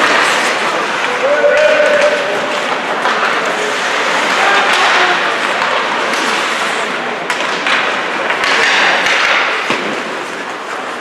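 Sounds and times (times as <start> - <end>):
arena noise: 0.0 - 11.0
hockey sticks knocking puck: 0.0 - 11.0.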